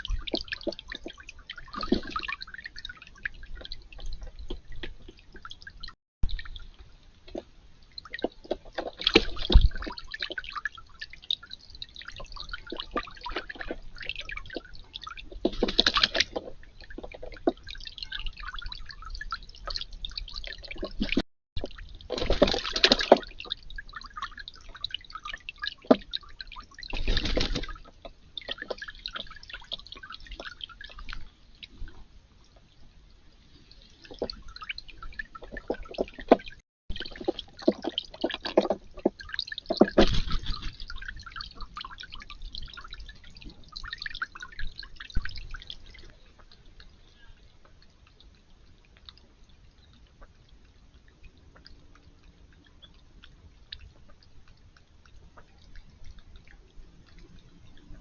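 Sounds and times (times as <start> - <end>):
water dripping and splashing: 0.0 - 58.0.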